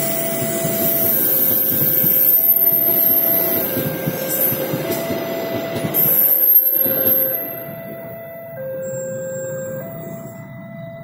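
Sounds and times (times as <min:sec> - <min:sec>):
train wheels clattering: 0:00.0 - 0:10.4
two-tone crossing warning signal: 0:00.0 - 0:11.0.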